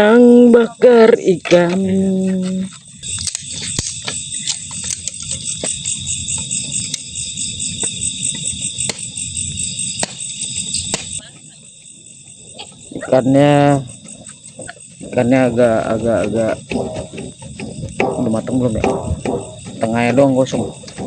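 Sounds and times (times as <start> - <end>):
night insects chirring: 0.0 - 21.0.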